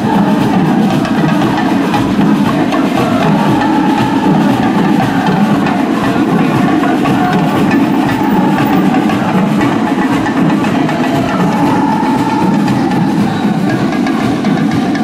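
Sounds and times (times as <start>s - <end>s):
drums and percussion beat: 0.0s - 15.0s.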